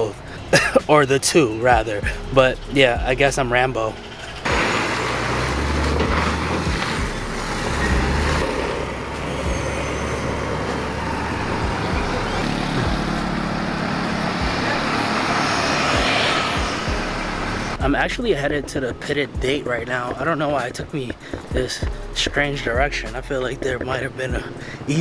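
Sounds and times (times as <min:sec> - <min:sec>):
motor vehicle engine rumbling: 0:00.0 - 0:25.0
road noise hiss: 0:00.0 - 0:25.0.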